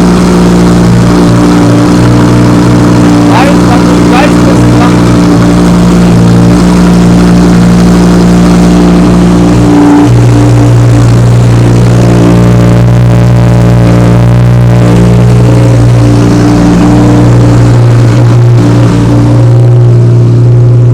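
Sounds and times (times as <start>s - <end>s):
car engine idling loudly: 0.0s - 20.9s.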